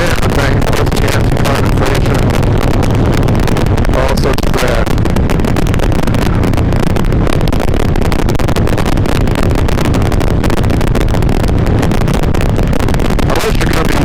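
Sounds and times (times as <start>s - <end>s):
motorcycle engine cruising: 0.0s - 14.0s
wind rush on microphone: 0.0s - 14.0s.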